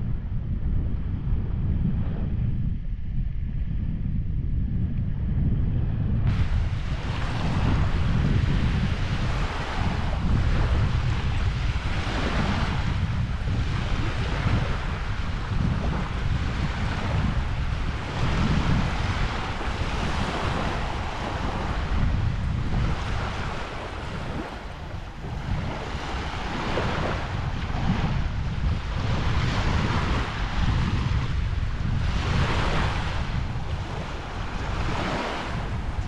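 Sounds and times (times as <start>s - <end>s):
wind buffeting microphone: 0.0s - 36.0s
small waves washing on beach: 6.3s - 36.0s.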